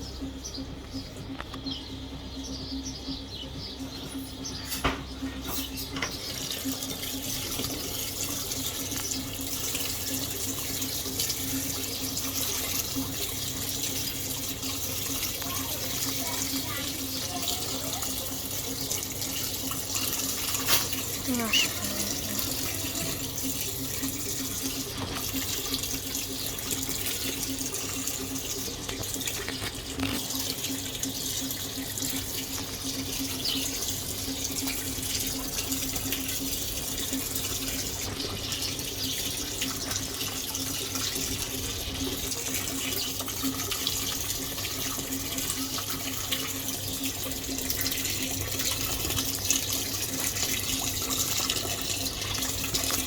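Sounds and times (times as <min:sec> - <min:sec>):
washing machine humming: 0:00.0 - 0:53.0
water pouring into washing machine: 0:05.2 - 0:53.0.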